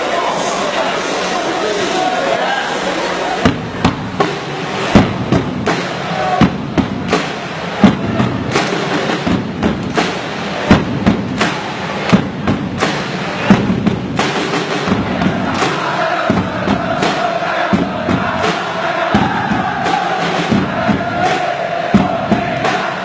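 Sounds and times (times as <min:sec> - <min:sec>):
crowd voices chanting: 0:00.0 - 0:23.0
drums beating: 0:02.8 - 0:23.0.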